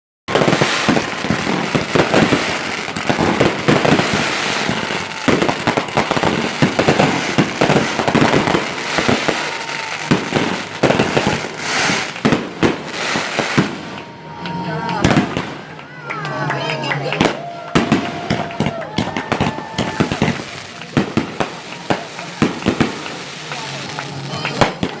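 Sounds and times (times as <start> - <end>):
fireworks crackling and banging: 0.3 - 25.0.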